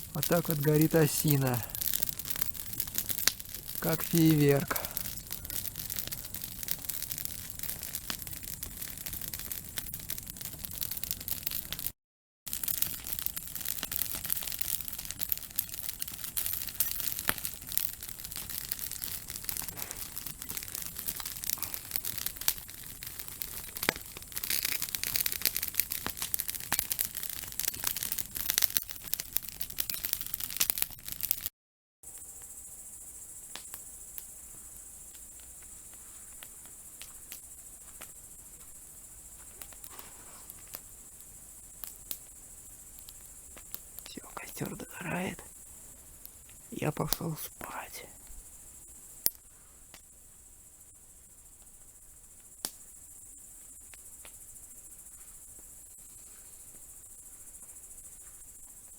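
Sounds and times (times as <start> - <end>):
campfire crackling and popping: 0.0 - 31.5, 32.1 - 50.2, 51.5 - 58.9.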